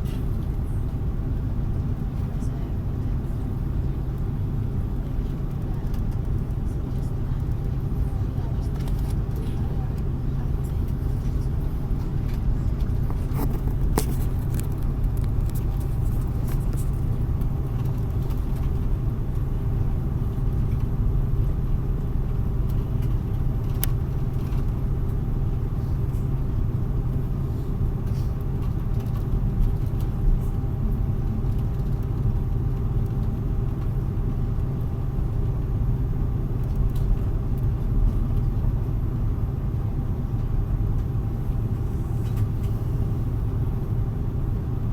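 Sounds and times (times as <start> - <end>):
low rumble inside aircraft cabin: 0.0 - 44.9.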